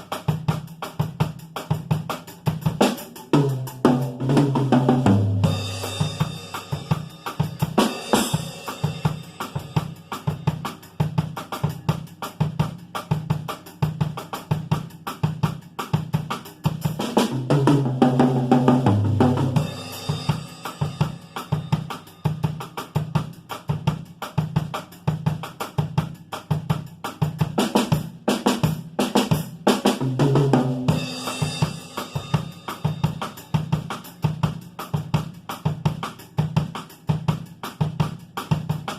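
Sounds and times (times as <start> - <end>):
drum kit groove: 0.0 - 38.9.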